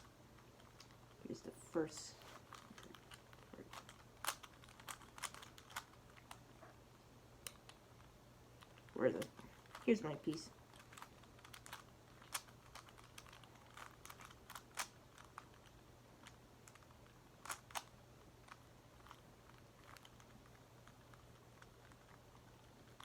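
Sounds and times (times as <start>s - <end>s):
low steady hum: 0.0s - 23.0s
puzzle cube clicking: 2.4s - 6.4s, 7.4s - 23.0s.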